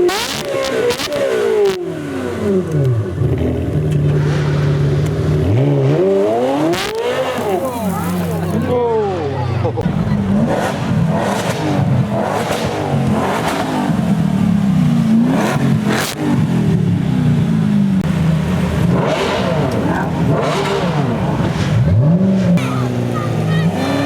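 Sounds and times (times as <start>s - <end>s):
supercar engines revving: 0.0s - 24.0s.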